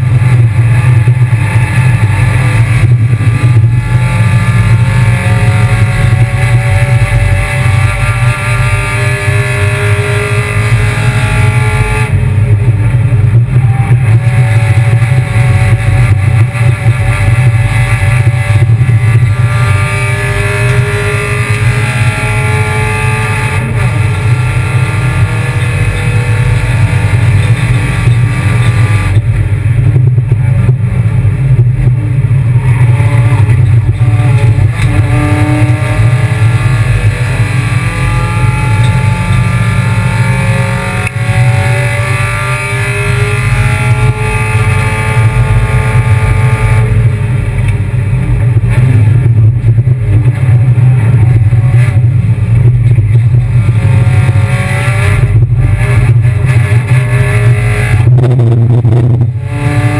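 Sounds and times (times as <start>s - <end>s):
constant low drone: 0.0s - 59.9s
race car engine accelerating: 0.0s - 59.9s.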